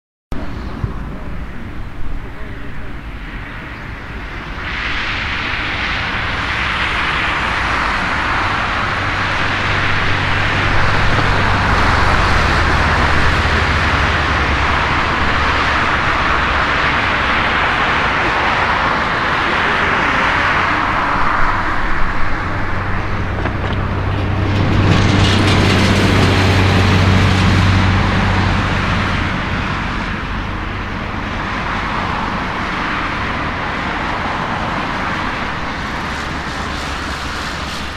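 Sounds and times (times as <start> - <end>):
jet engines roaring: 0.3 - 37.9.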